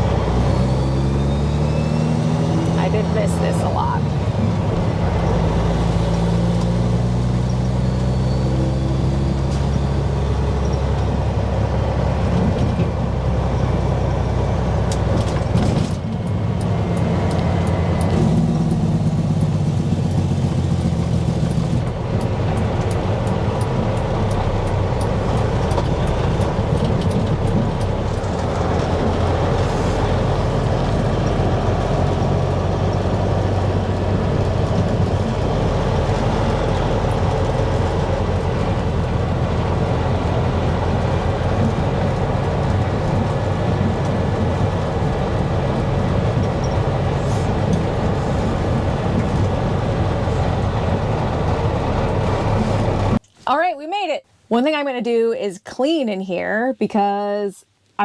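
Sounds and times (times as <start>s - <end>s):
truck diesel engine running: 0.0s - 53.2s.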